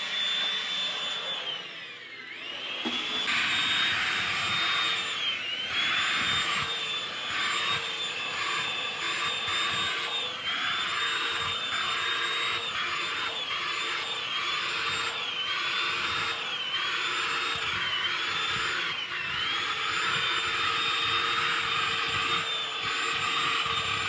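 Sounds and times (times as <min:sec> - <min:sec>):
vacuum motor whine: 0:00.0 - 0:24.0.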